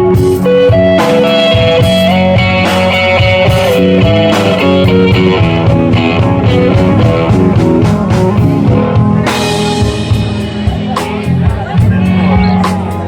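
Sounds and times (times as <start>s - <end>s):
blues-rock band playing: 0.0s - 13.0s
electric guitar lead line: 0.0s - 13.0s.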